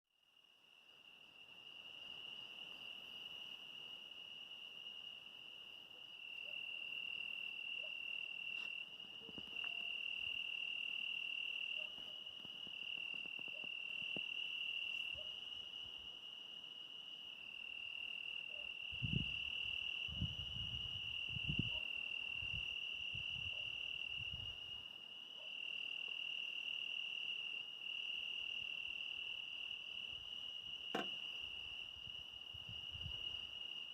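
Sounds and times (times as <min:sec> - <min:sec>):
crickets trilling: 0:06.2 - 0:33.9.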